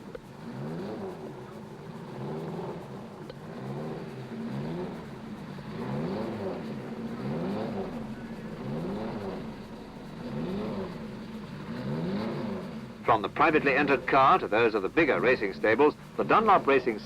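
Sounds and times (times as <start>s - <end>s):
racing car engines running hard: 0.0s - 17.0s.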